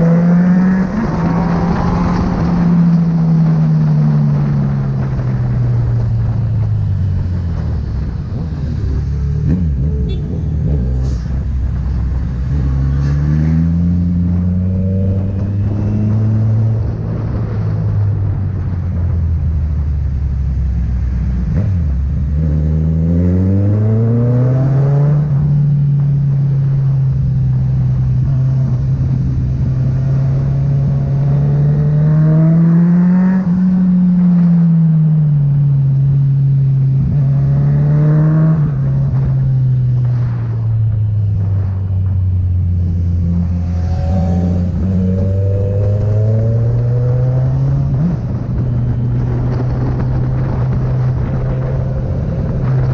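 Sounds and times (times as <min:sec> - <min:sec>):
motorcycle engine revving: 0:00.0 - 0:18.4, 0:21.0 - 0:52.9.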